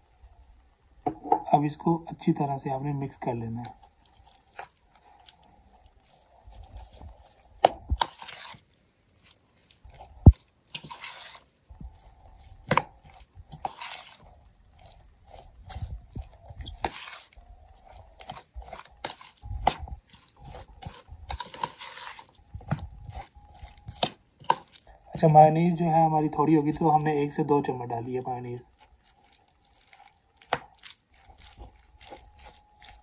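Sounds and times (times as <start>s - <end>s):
vegetables rustling and crunching: 2.4s - 33.0s.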